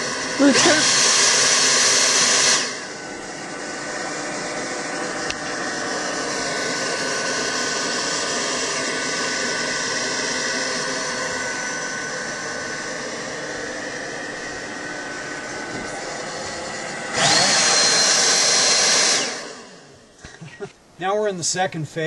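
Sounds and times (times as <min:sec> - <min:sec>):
electric fan whooshing and whining: 0:00.0 - 0:21.2.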